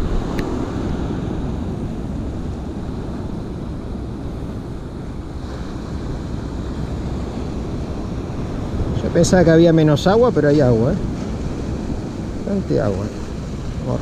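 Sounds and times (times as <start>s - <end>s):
sea waves against rocks: 0.0s - 14.0s
wind noise on microphone: 0.0s - 14.0s.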